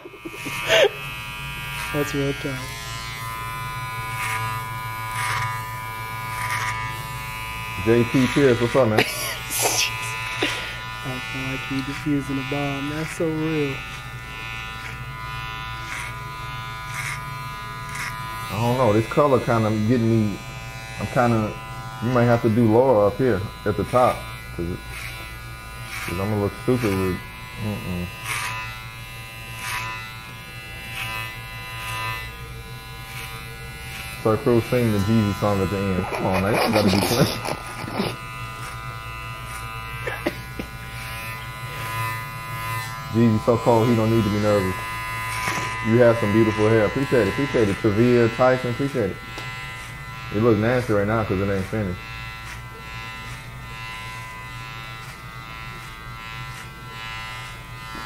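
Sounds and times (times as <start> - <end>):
electric hair clippers buzzing: 0.0 - 58.0.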